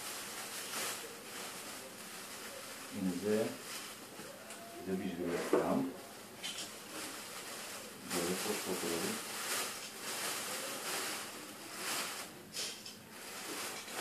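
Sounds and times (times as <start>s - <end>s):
plastic bag rustling: 0.0s - 14.0s.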